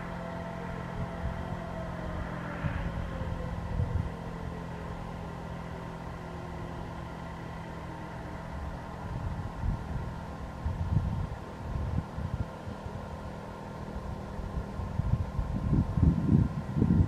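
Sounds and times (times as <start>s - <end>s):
wind rumbling on microphone: 0.0s - 6.1s, 8.5s - 17.0s
warning sirens winding down: 0.0s - 17.0s.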